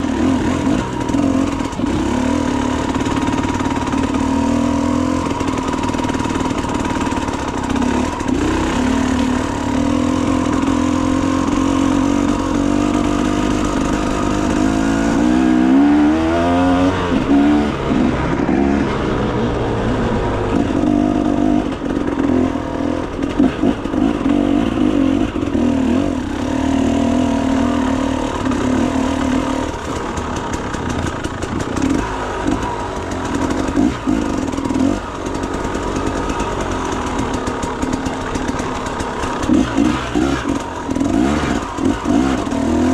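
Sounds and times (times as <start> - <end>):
clatter: 0.0 - 42.9
motorcycle engine revving: 0.0 - 42.9.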